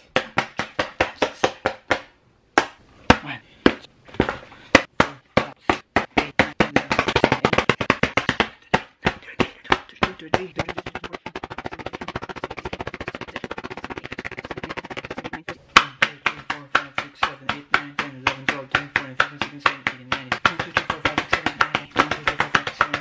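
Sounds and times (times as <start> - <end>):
hands slapping paper: 0.0 - 3.3, 4.2 - 23.0.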